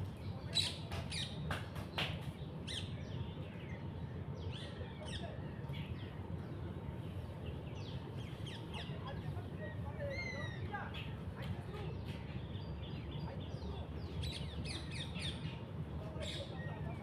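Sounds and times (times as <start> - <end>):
low background rumble: 0.0 - 17.0
wild birds chirping: 0.0 - 17.0.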